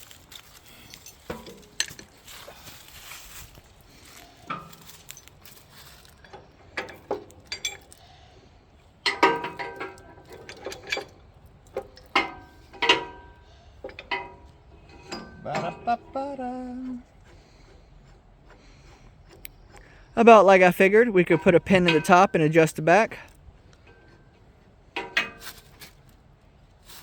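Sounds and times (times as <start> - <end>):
metal hitch pins clanking: 0.2 - 27.0.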